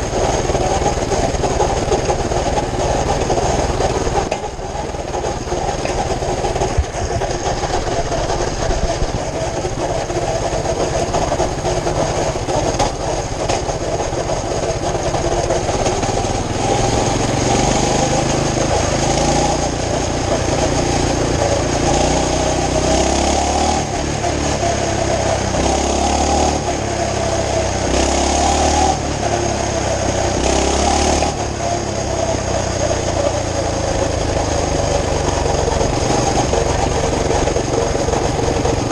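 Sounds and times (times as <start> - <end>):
mini bike engine running: 0.0 - 38.9.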